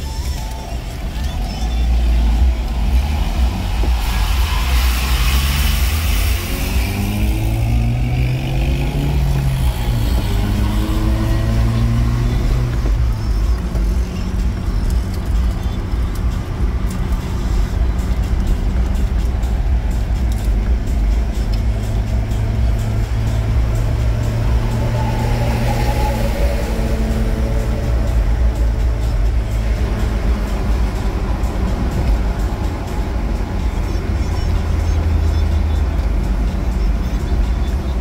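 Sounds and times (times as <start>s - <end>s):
car engine accelerating: 0.0s - 38.0s
low road rumble: 0.0s - 38.0s.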